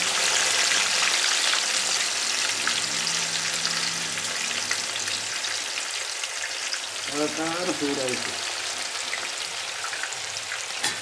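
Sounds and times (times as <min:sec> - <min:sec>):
oil sizzling and popping: 0:00.0 - 0:11.0.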